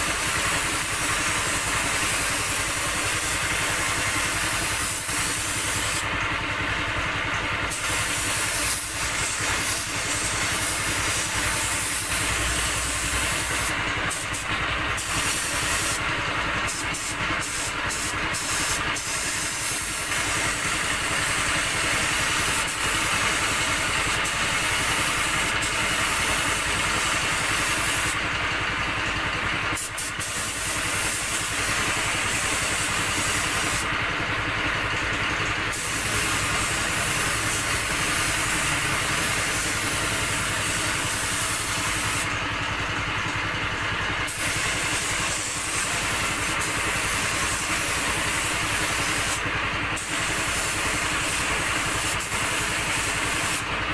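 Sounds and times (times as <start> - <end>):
spray gun hissing: 0.0 - 6.0, 7.7 - 16.0, 16.7 - 28.2, 29.8 - 33.9, 35.7 - 42.3, 44.3 - 49.4, 50.0 - 53.7.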